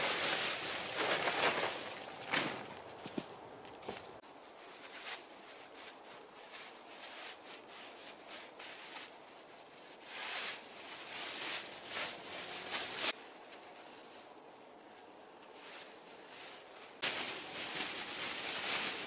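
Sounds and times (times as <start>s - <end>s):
plastic sheeting rustling: 0.0s - 3.2s, 3.8s - 19.0s.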